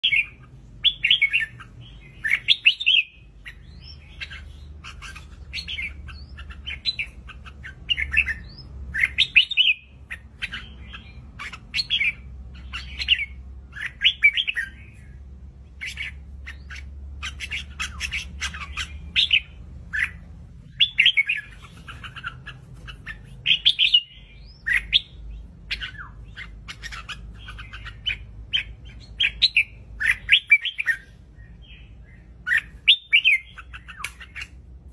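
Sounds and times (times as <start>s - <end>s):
bird chirping song: 0.0s - 34.9s.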